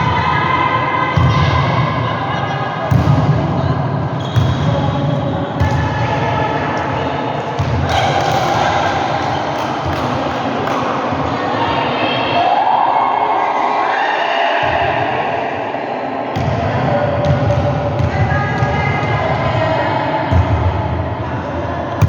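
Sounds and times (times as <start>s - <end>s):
players' voices echoing: 0.0s - 22.0s.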